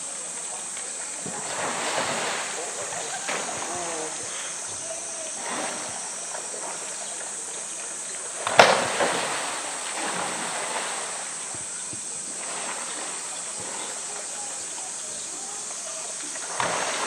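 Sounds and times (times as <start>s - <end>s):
water splashing: 0.0s - 17.0s
water sloshing: 0.5s - 17.0s.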